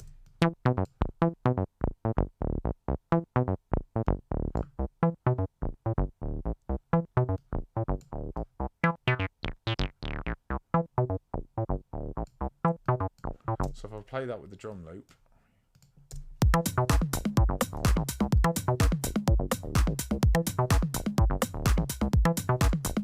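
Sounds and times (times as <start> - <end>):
synthesizer acid bassline: 0.4 - 13.7, 16.4 - 23.0.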